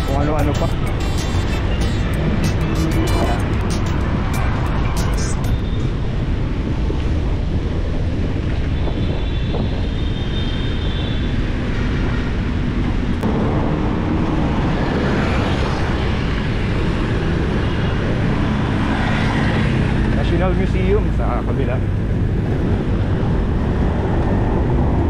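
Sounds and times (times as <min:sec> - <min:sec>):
road traffic: 0:00.0 - 0:25.0
wind rushing over microphone: 0:00.0 - 0:25.0.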